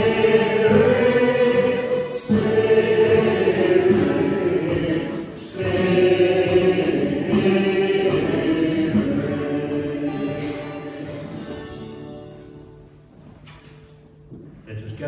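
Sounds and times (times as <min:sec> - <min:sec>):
congregation singing a hymn: 0:00.0 - 0:12.9.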